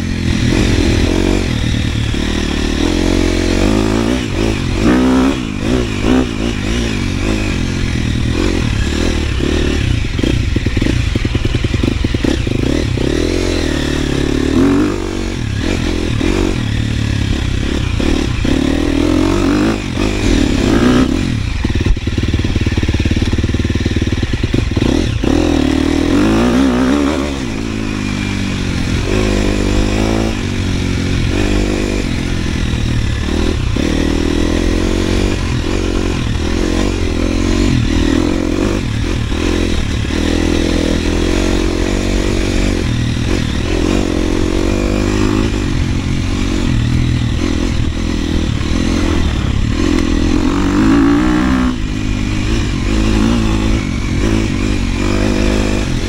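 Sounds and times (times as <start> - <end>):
dirt bike engine running hard: 0.0 - 56.0
knocks and rattles from bike: 0.0 - 56.0.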